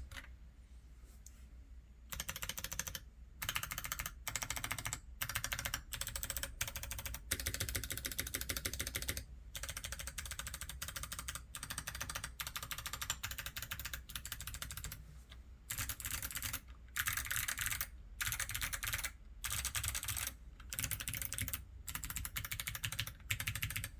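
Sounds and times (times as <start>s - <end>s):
mechanical keyboard typing: 2.1s - 15.0s, 15.7s - 23.9s.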